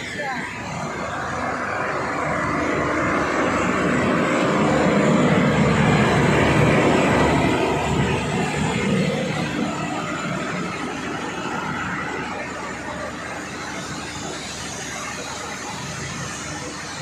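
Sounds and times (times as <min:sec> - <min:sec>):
water pump engine running: 0:00.0 - 0:17.0.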